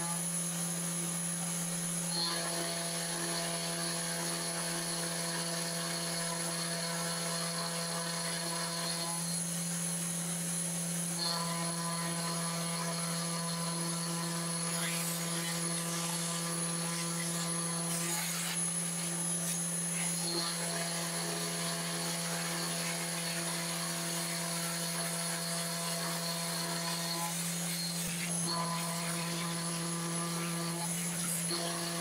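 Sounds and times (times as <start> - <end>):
router spindle milling wood: 0.0 - 32.0.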